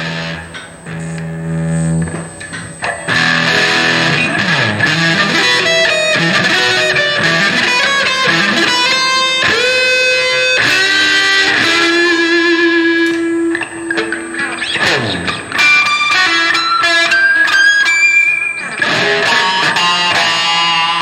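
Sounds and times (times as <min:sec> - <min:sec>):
electric guitar with reverb: 0:00.0 - 0:21.0.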